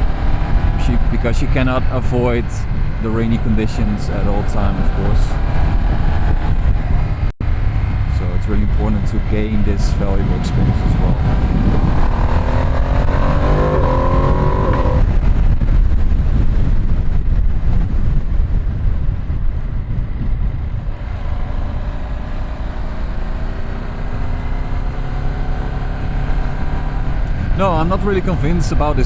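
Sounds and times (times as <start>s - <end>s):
low wind rush: 0.0s - 29.0s
motorcycle engine accelerating: 0.0s - 29.0s.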